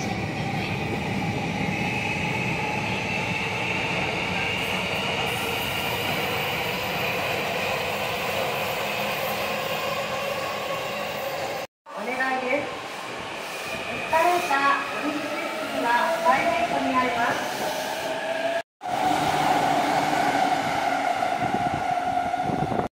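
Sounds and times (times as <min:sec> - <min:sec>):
high train whine: 0:00.0 - 0:22.9.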